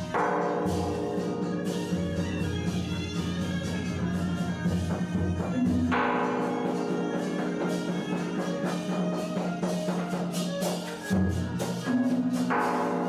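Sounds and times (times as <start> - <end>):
light percussion strikes: 0.0 - 13.0
long held instrumental notes: 0.0 - 13.0.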